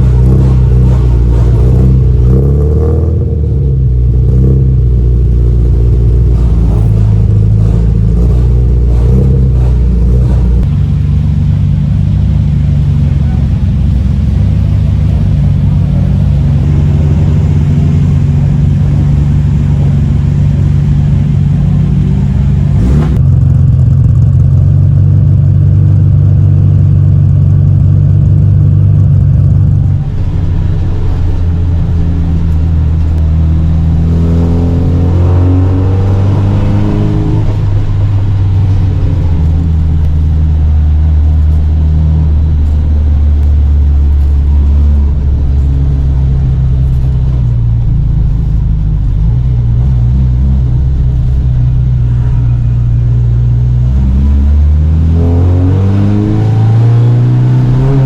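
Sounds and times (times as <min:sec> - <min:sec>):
car engine running: 0:00.0 - 0:58.0.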